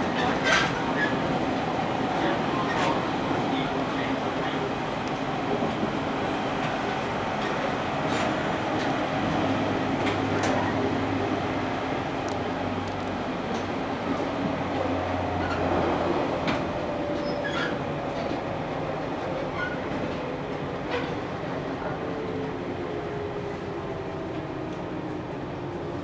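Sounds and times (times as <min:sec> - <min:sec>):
train rolling noise: 0:00.0 - 0:26.0.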